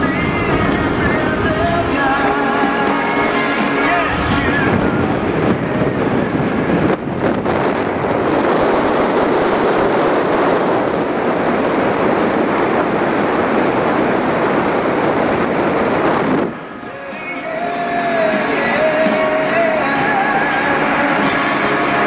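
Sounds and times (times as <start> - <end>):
car road noise: 0.0 - 22.0
wind rushing over microphone: 0.0 - 22.0.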